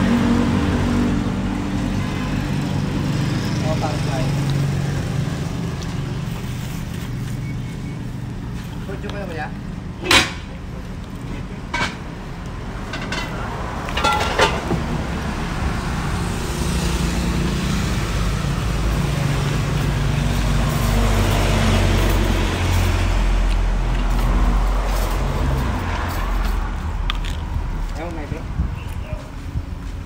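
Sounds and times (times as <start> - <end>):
vehicle engine rumble passing: 0.0 - 29.8
street traffic noise: 0.0 - 30.0.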